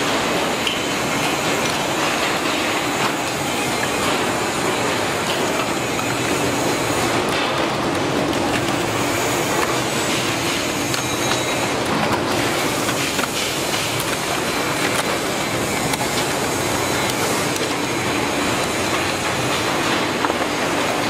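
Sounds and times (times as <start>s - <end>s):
bottle washing machinery running: 0.0s - 21.0s.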